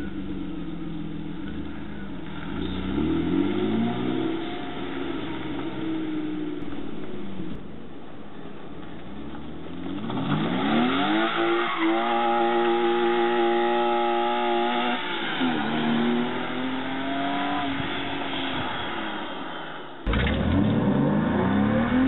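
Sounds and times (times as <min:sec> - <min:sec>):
car engine revving: 0:00.0 - 0:07.6, 0:09.6 - 0:22.0.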